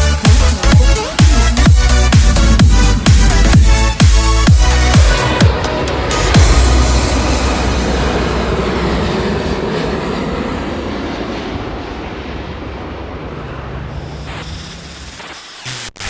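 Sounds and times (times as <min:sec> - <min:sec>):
tram running rumble and hiss: 0:00.0 - 0:15.3
low hum: 0:00.3 - 0:15.1.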